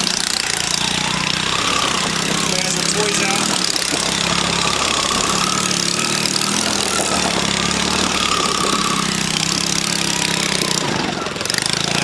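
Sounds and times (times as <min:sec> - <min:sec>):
small gasoline engine idling: 0:00.0 - 0:12.0.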